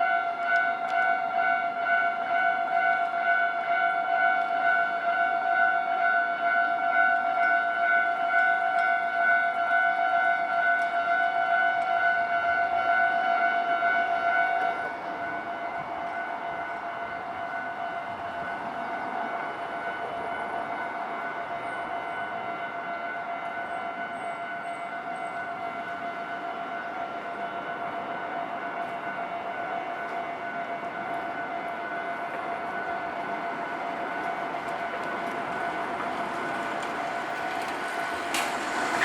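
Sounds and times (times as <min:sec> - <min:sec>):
level-crossing warning bell ringing: 0:00.0 - 0:39.0.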